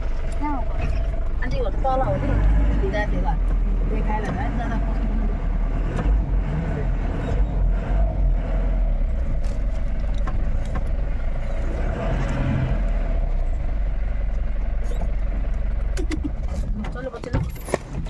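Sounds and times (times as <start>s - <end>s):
van engine and road rumble: 0.0s - 18.0s.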